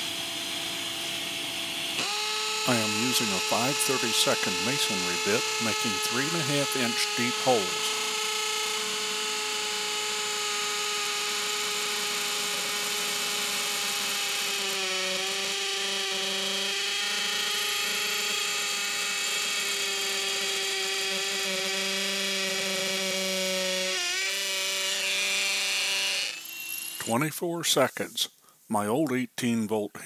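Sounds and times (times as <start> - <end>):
hammer drill boring into concrete: 0.0 - 27.2.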